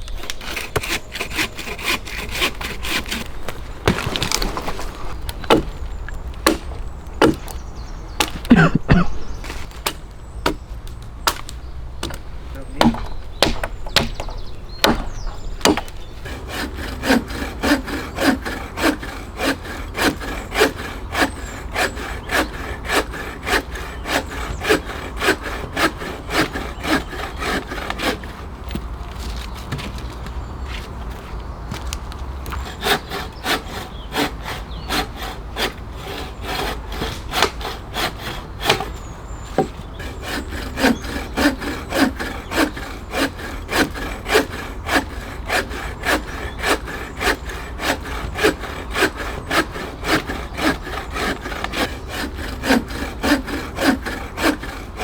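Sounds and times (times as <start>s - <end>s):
hand saw cutting log: 0.0s - 30.9s, 31.7s - 55.0s.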